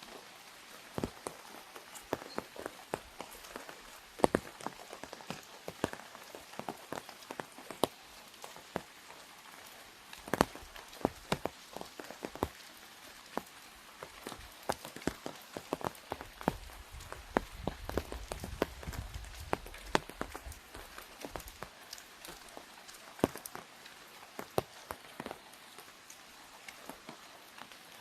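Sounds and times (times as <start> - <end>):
faint hiss of rain: 0.0 - 28.0
raindrops tapping on umbrella: 0.0 - 28.0.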